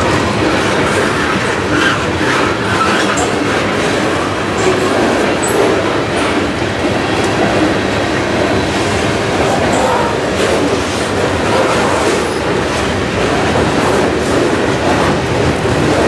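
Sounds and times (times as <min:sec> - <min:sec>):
train wheels rolling on rail: 0:00.0 - 0:16.0.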